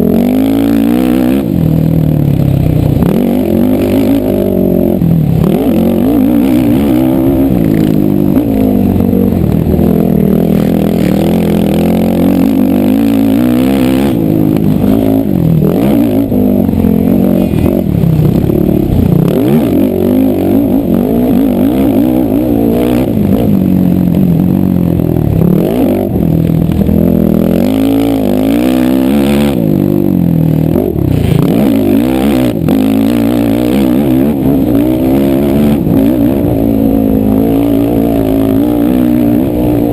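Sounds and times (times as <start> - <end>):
racing atv engines revving: 0.0 - 39.9.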